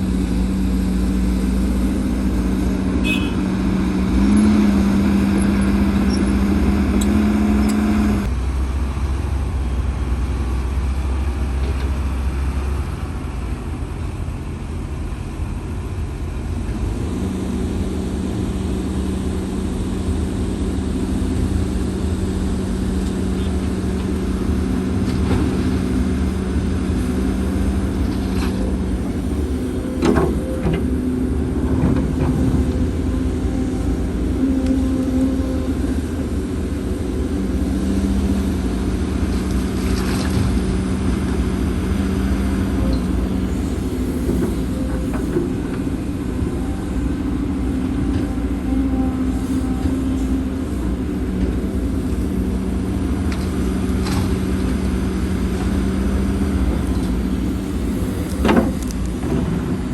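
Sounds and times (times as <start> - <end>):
heavy machinery diesel engines: 0.0 - 59.9.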